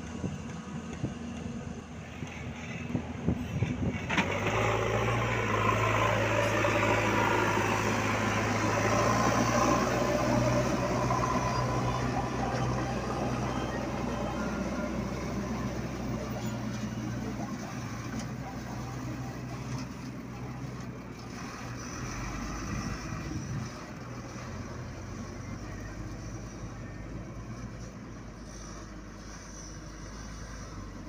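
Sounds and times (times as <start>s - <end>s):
truck diesel engine driving away: 0.0s - 31.0s.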